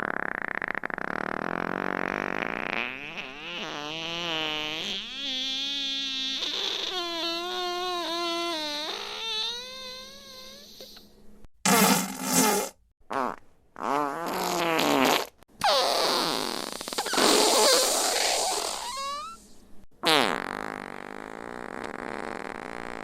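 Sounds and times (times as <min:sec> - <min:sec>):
fart sound effects: 0:00.0 - 0:11.0, 0:11.6 - 0:19.4, 0:20.0 - 0:23.0.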